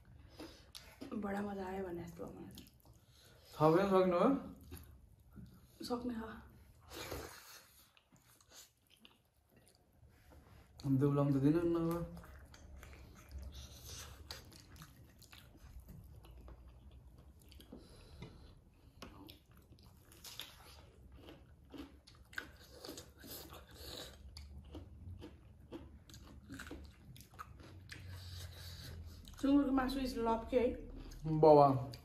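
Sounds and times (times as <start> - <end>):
wet chewing: 0.0 - 3.6, 4.4 - 5.8, 6.8 - 29.9.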